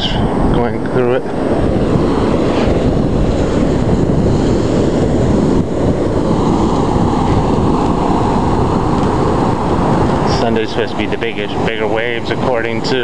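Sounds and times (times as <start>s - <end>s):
ocean surf rushing: 0.0s - 13.0s
wind buffeting microphone: 0.0s - 13.0s.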